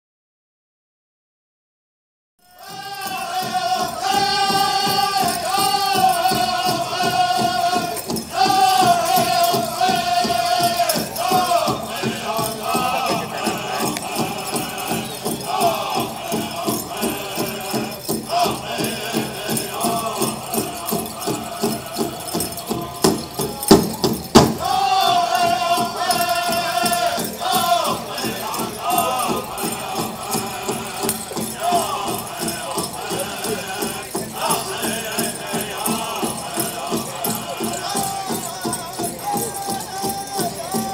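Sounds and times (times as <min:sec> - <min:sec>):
drum group singing high-pitched: 0:02.4 - 0:40.9
big drum beat: 0:02.6 - 0:40.9
rattling jingling: 0:02.6 - 0:40.9.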